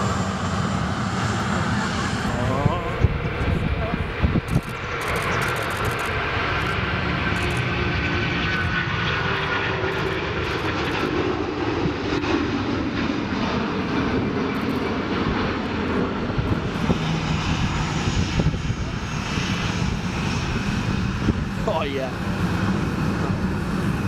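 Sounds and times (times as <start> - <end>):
jet engines roaring: 0.0 - 24.0
wind on microphone: 2.0 - 13.0, 13.6 - 24.0.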